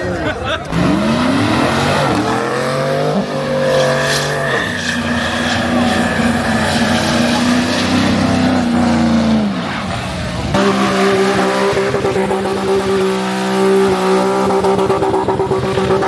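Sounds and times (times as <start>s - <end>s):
race car engine at high revs: 0.6s - 16.0s.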